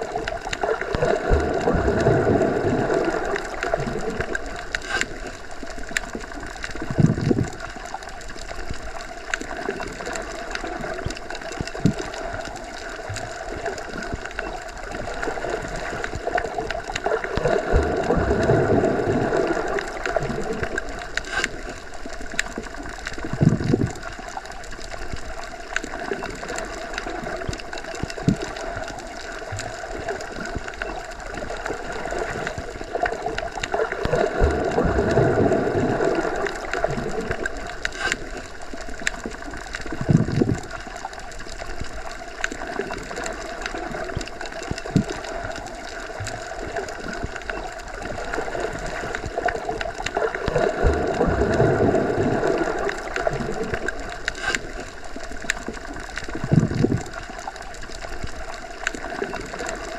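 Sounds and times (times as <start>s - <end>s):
muffled underwater rushing: 0.0s - 59.9s.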